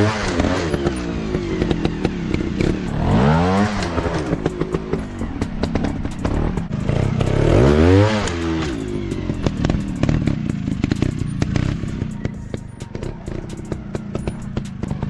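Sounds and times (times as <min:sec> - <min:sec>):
dirt bike engine revving: 0:00.0 - 0:15.0
sharp clicks and knocks: 0:00.0 - 0:15.0.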